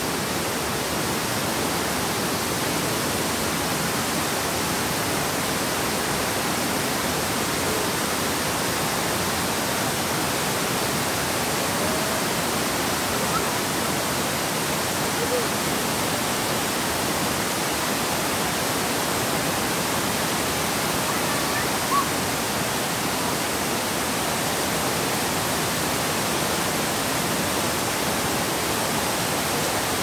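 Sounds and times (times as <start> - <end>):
waterfall rushing over rocks: 0.0 - 30.0.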